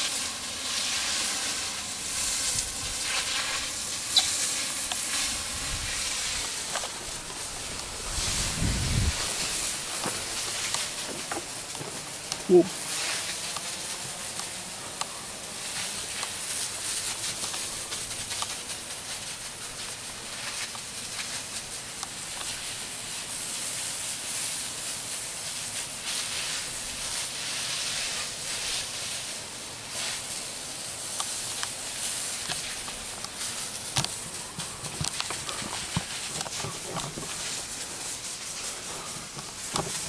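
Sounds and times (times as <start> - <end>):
water spraying onto roof tiles: 0.0 - 40.0.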